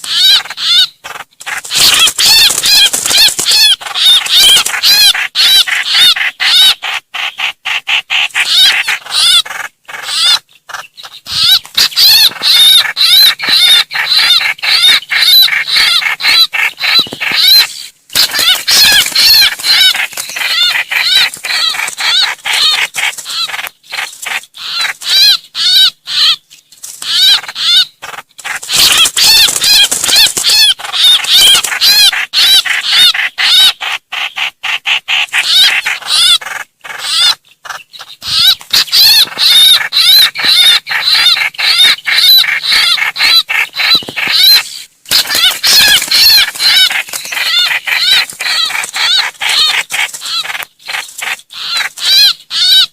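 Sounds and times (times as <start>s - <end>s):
bird distress calls: 0.0s - 52.9s.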